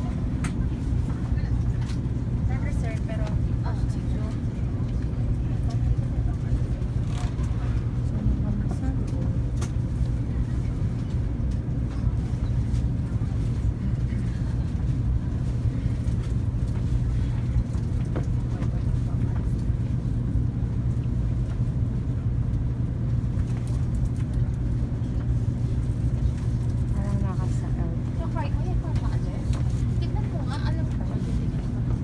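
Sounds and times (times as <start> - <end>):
train carriage low hum: 0.0 - 32.0.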